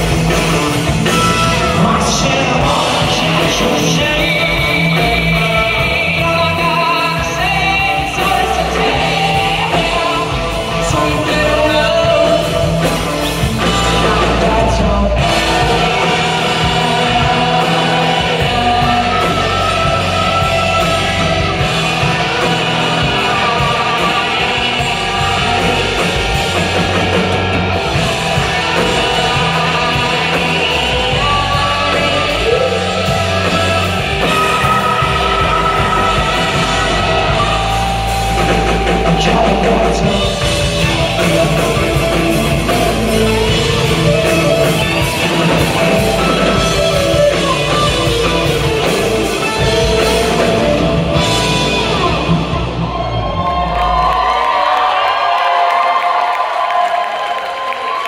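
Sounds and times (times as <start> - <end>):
person singing: 0.0 - 53.2
bass guitar: 0.0 - 55.5
drum kit: 0.0 - 58.0
electric guitars: 0.0 - 58.0.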